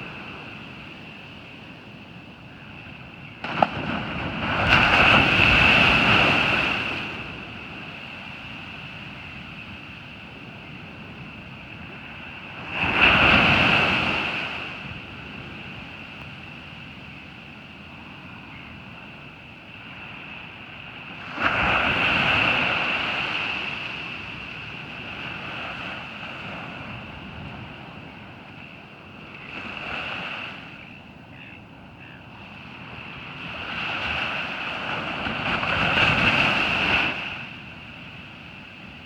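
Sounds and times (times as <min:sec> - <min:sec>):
waves breaking on a beach: 0:00.0 - 0:39.0.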